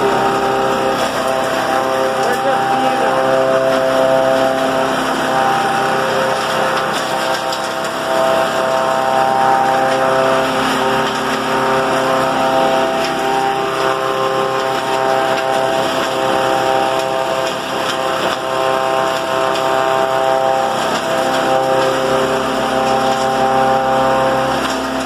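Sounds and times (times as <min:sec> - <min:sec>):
hammer mill grinding: 0:00.0 - 0:25.0.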